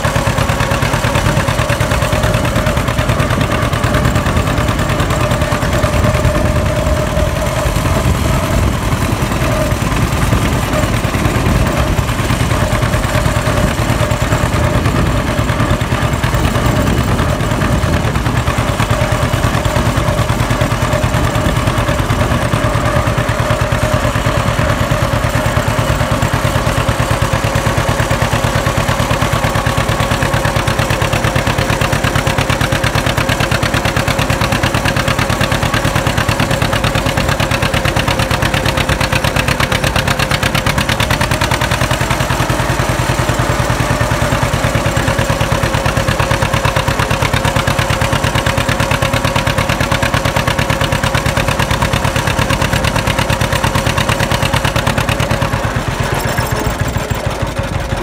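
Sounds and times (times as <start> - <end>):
steady whine: 0.0 - 58.0
tractor engine popping exhaust: 0.0 - 58.0.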